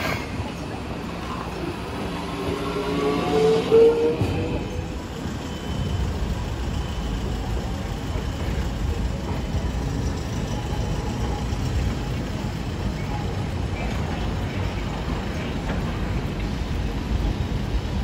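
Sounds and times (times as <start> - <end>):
tram motor hum: 0.0 - 18.0.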